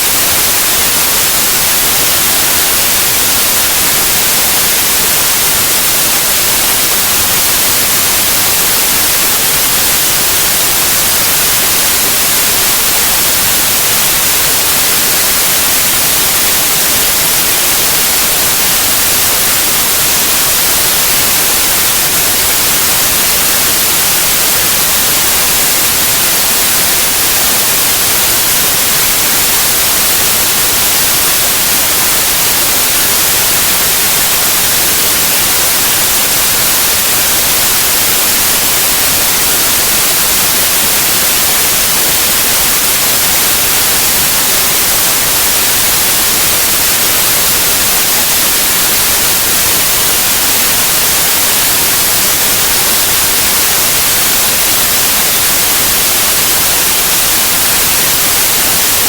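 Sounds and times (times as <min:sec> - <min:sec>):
loud white noise hiss: 0:00.0 - 0:59.0.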